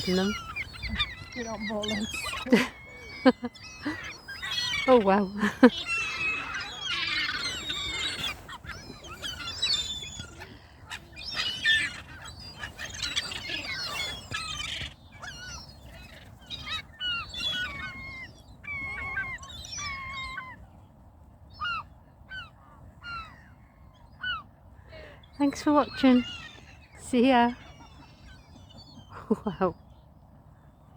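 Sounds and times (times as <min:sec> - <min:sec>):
waterbirds squawking: 0:00.0 - 0:20.6, 0:21.5 - 0:29.8.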